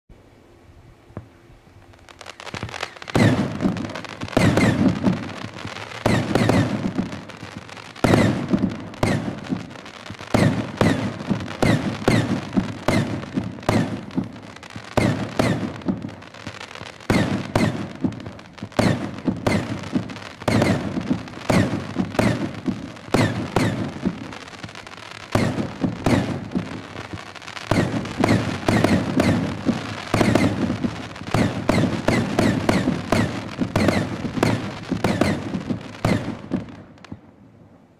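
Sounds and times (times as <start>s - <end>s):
firework crackling: 1.1s - 37.4s
firework bangs: 2.0s - 37.3s.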